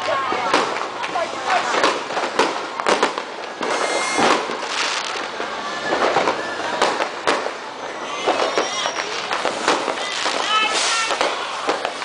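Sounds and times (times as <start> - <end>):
firecracker crackle: 0.0 - 12.0
firework pops and bangs: 0.0 - 12.0.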